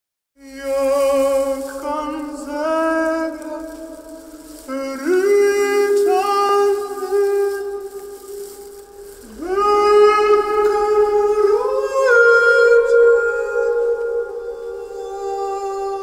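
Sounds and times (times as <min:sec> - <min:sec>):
wordless sung notes music: 0:00.4 - 0:16.0.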